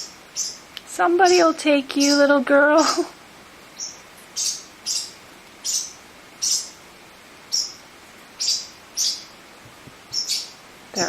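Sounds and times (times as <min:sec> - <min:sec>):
parrot chicks chirping: 0:00.0 - 0:11.0.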